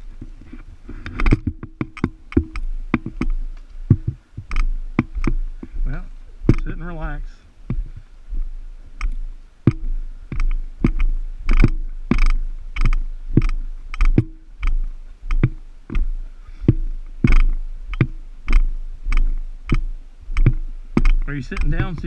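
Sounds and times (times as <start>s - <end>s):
regular thuds: 0.0s - 22.0s
steady low rumble: 0.0s - 22.0s.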